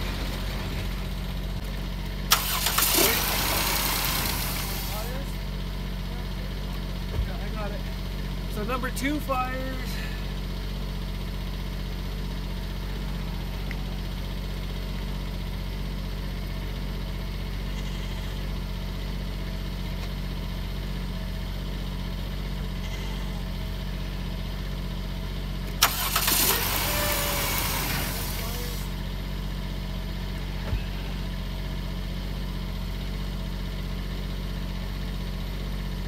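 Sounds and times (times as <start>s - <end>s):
car engine idling with misfire: 0.0s - 36.0s.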